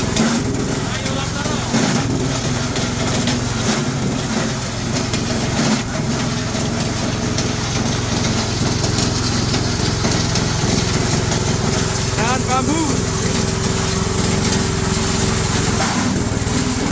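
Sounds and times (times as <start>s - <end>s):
shredder motor running: 0.0s - 16.9s.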